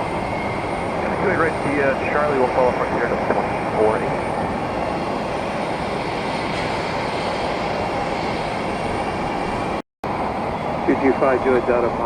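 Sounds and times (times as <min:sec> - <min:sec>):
jet aircraft engines running: 0:00.0 - 0:12.0.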